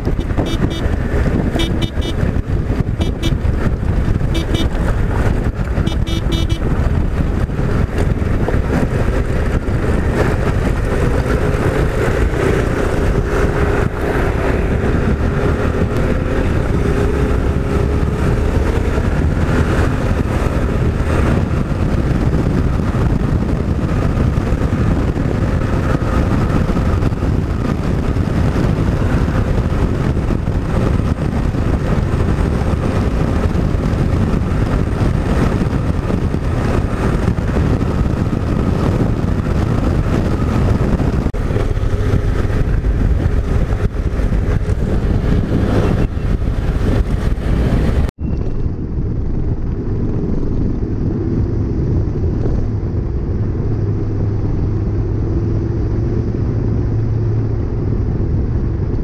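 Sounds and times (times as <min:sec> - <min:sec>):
motorcycle engine running: 0:00.0 - 0:59.0
wind and road noise rumble: 0:00.0 - 0:59.0.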